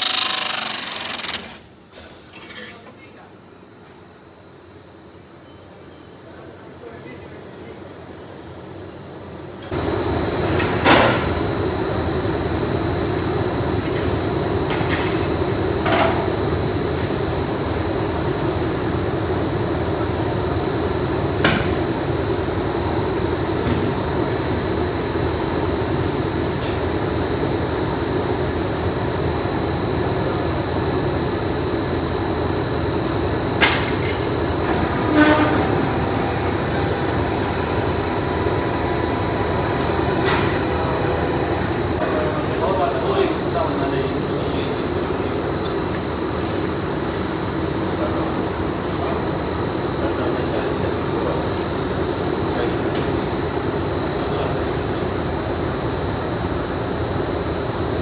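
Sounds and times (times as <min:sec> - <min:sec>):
high machine whine: 0:00.0 - 0:02.7, 0:06.2 - 0:58.0
factory machinery running: 0:00.0 - 0:58.0.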